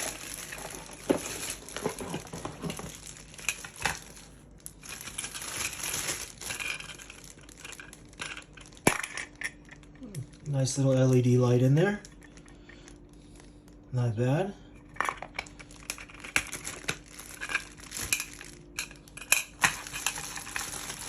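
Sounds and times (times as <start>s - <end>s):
plastic packaging crinkling: 0.0s - 13.8s, 14.8s - 21.0s.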